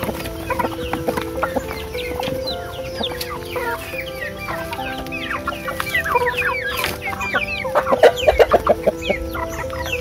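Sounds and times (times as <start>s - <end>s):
background music with held notes: 0.0s - 10.0s
chickens clucking: 0.0s - 10.0s.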